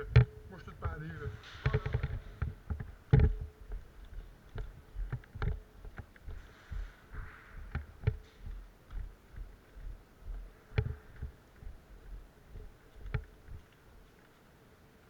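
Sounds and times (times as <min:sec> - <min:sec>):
gear clicking and rattling: 0:00.0 - 0:14.4
footsteps walking: 0:00.0 - 0:14.6.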